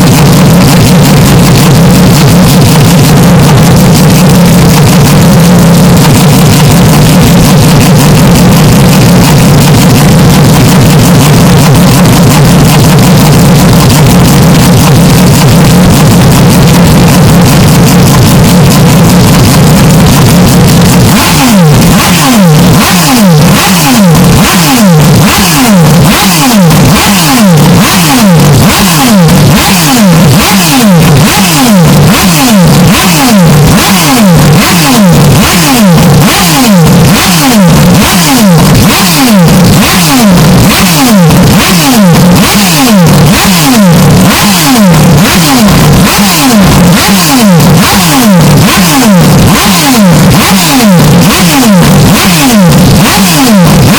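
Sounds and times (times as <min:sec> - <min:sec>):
distorted race car engine: 0:00.0 - 0:53.9.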